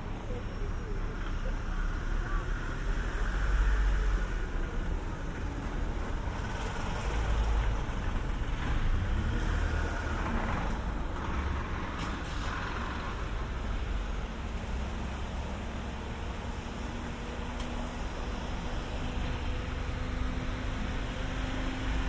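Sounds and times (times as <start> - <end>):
motor vehicles passing: 1.3 - 22.0.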